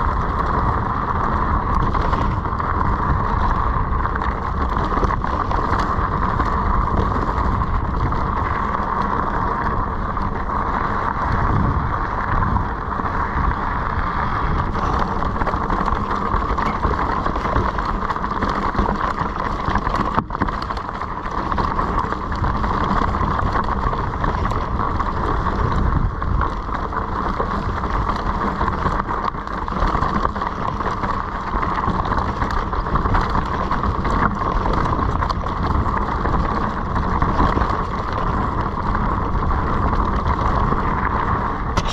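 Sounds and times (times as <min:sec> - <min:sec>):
mountain bike rumble and rattle: 0:00.0 - 0:41.9
wind buffeting microphone: 0:00.0 - 0:41.9.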